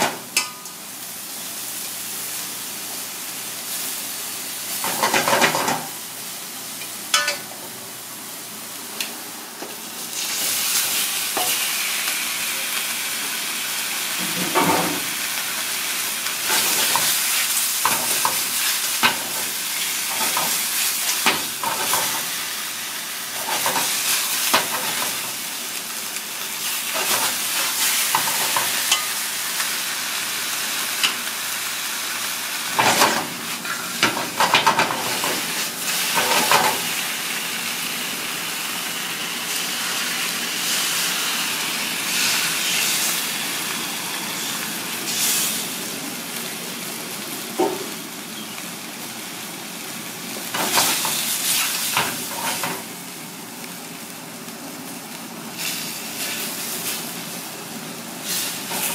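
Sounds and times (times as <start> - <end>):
prawns sizzling in a wok: 0.0 - 58.9.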